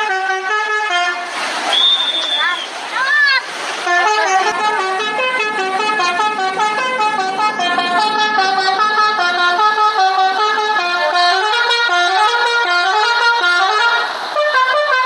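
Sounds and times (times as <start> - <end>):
musical air horn playing tune: 0.0 - 2.6, 3.9 - 15.0.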